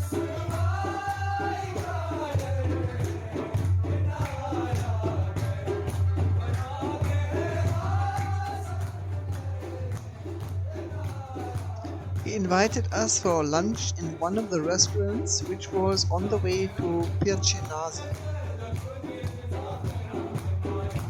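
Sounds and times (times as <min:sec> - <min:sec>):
shaker-like percussion: 0:00.0 - 0:21.0
song with sung melody: 0:00.0 - 0:21.0.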